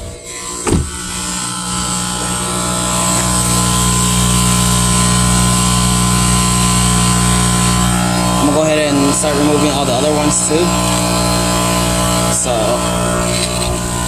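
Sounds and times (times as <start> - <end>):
small air compressor running: 0.0 - 14.0.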